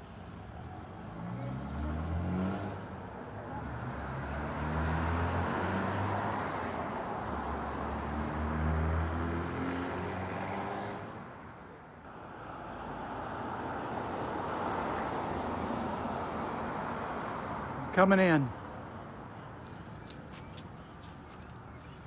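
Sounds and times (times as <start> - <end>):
tyre and road noise: 0.0 - 22.0.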